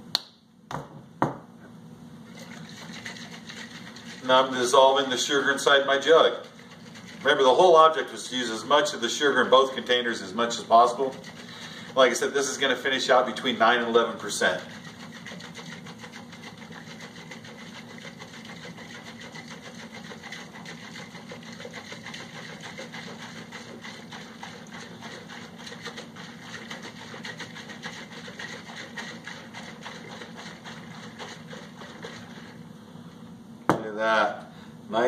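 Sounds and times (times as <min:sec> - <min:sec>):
liquid sloshing in a shaken jug: 0:02.2 - 0:32.6.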